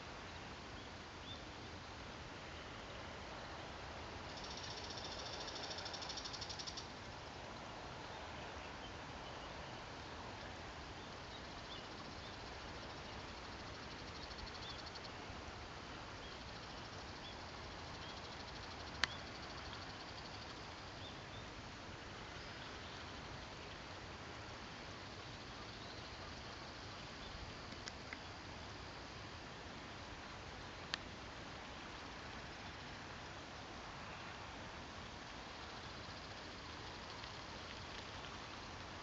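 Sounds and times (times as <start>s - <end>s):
outdoor background noise: 0.0s - 39.0s.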